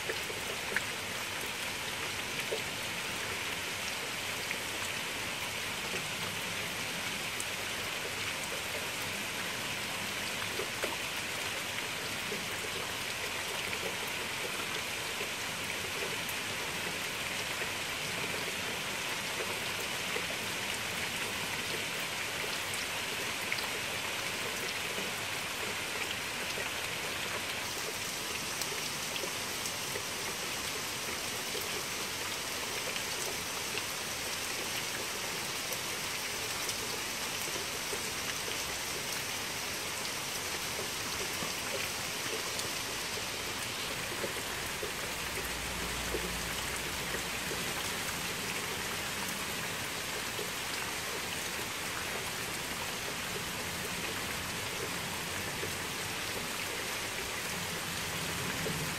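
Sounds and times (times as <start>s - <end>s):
rain on leaves and gravel: 0.0s - 58.9s.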